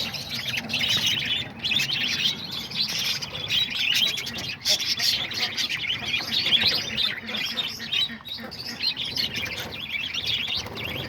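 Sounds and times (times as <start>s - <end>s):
budgerigars chattering and chirping: 0.0s - 11.0s.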